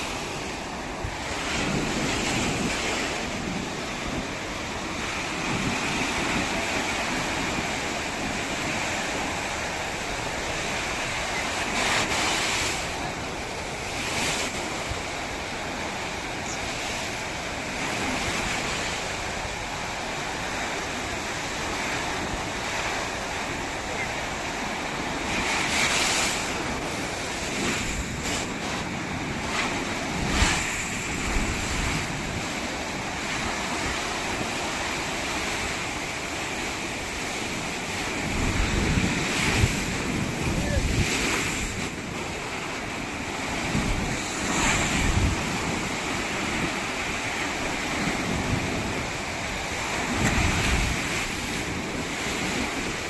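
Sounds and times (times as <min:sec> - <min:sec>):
ocean surf washing onto beach: 0:00.0 - 0:53.0
wind blowing across microphone: 0:00.0 - 0:53.0.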